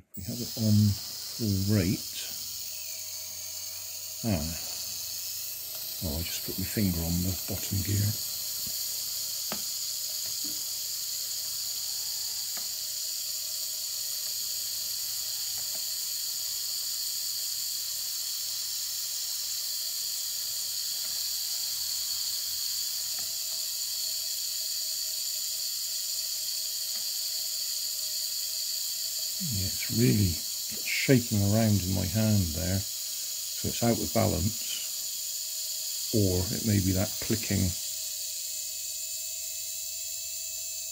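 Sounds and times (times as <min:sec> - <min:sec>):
toy helicopter motors whirring: 0:00.0 - 0:40.9.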